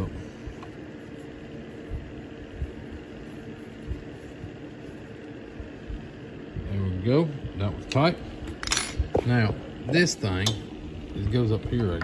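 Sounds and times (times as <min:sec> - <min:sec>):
steady low machine hum: 0:00.0 - 0:12.0.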